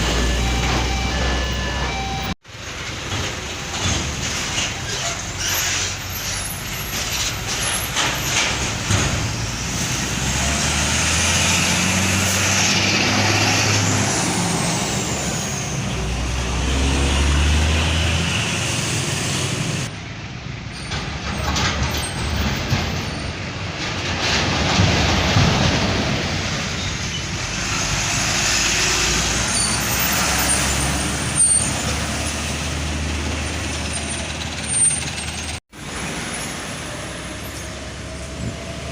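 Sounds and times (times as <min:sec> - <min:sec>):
heavy truck engines running: 0:00.0 - 0:38.9
road noise: 0:00.0 - 0:38.9.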